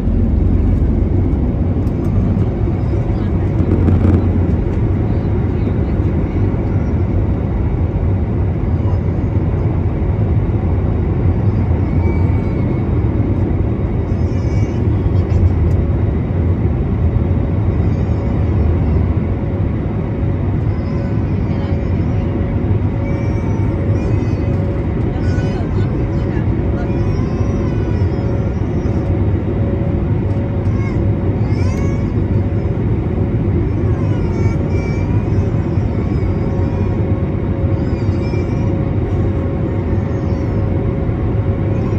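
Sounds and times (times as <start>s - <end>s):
airplane cabin engine roar: 0.0s - 41.9s.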